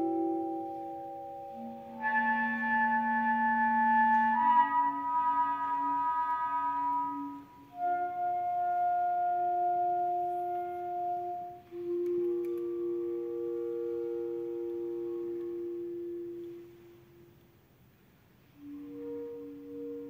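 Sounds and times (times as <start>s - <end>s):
string orchestra sustained notes: 0.0s - 17.2s
clarinet: 0.0s - 17.5s, 18.4s - 20.0s.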